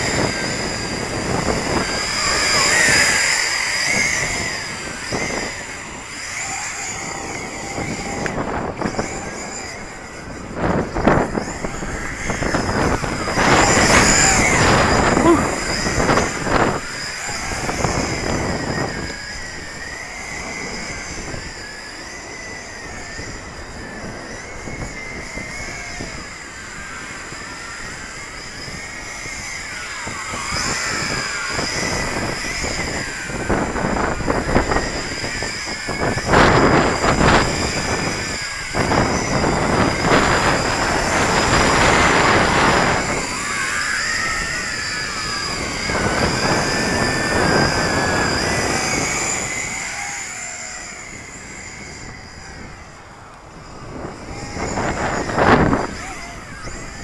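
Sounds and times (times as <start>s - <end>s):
drone motors whining: 0.0s - 57.0s
wind buffeting microphone: 0.0s - 57.0s.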